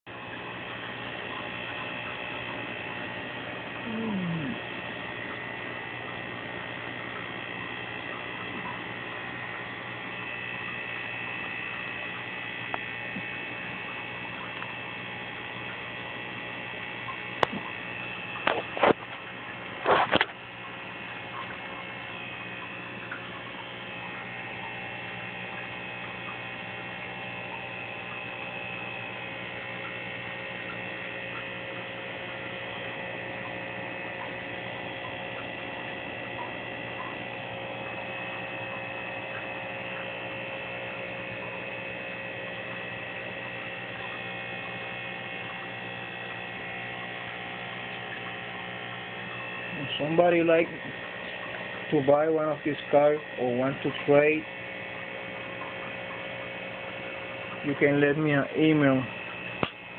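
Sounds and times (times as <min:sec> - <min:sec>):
low mains hum: 0:00.1 - 0:59.9.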